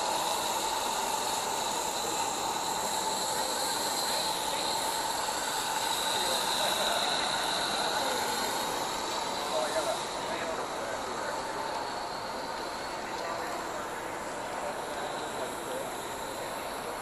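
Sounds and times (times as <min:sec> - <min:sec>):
model locomotive wheels and gearing: 0:00.0 - 0:17.0
steam hiss: 0:00.0 - 0:17.0.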